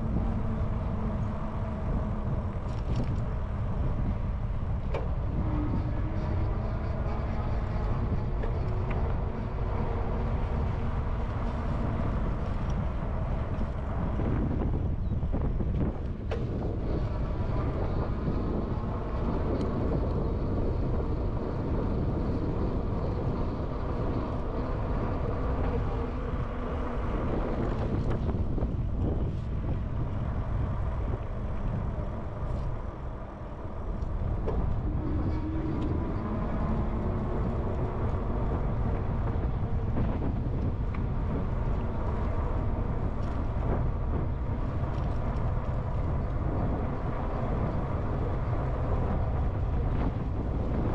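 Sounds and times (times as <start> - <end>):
bike rolling on pavement: 0.0 - 50.9
faint motor whine: 0.0 - 50.9
wind buffeting microphone: 0.0 - 50.9.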